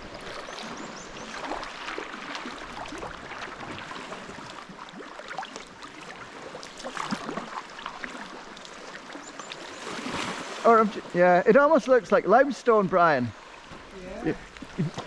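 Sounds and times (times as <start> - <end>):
sea water splashing: 0.0 - 15.0.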